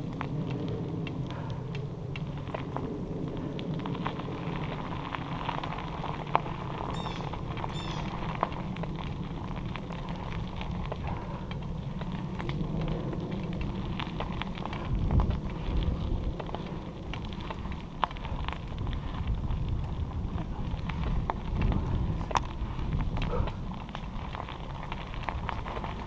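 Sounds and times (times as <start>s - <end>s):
bicycle tyres rumbling on dirt: 0.0s - 26.0s
gravel and twigs crackling: 0.0s - 26.0s
wind on microphone: 0.0s - 26.0s.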